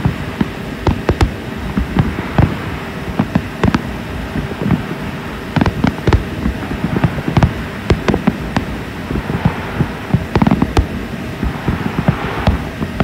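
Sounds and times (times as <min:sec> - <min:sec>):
fireworks bangs and cracks: 0:00.0 - 0:13.0
low rumble: 0:00.0 - 0:13.0.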